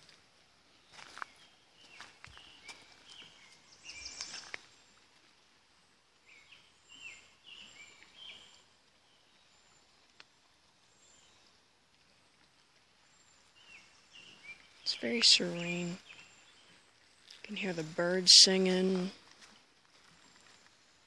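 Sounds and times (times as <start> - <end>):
songbirds singing: 0.7 - 5.1, 5.7 - 21.0.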